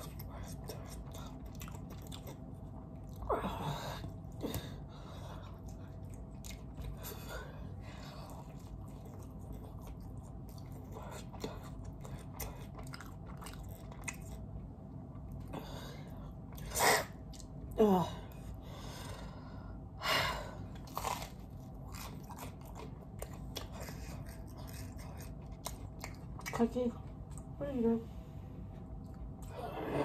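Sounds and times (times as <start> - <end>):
chewing pizza crust: 0.0 - 19.0, 20.6 - 27.6.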